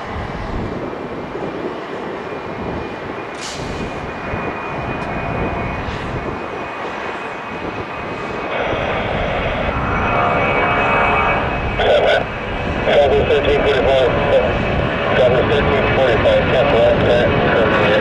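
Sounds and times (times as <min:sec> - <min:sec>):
jet engine with high whine: 0:00.0 - 0:18.0.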